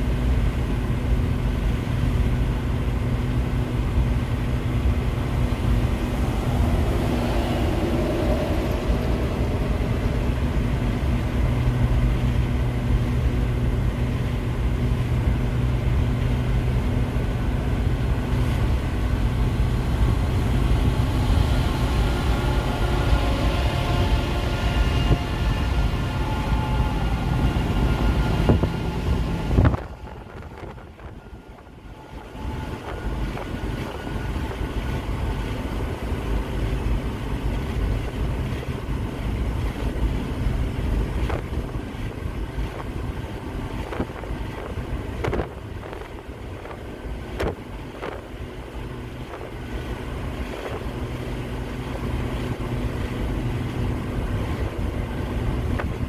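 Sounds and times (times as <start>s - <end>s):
road and engine noise inside van: 0.0s - 56.0s.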